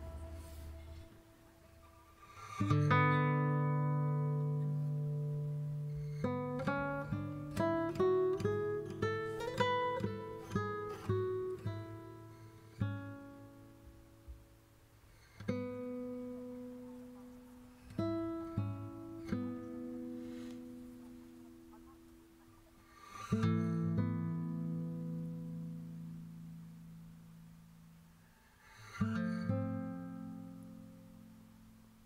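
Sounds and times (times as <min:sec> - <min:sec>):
acoustic guitar plucked notes: 0:00.0 - 0:32.0.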